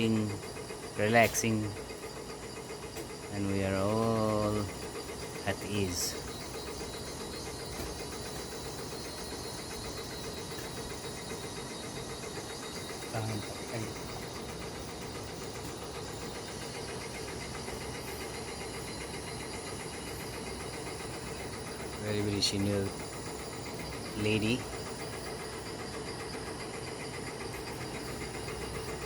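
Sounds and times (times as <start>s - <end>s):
motor humming: 0.0s - 29.0s.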